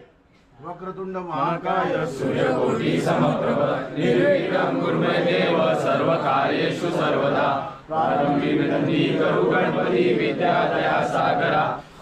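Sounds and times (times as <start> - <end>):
men chanting in unison: 1.6 - 12.0.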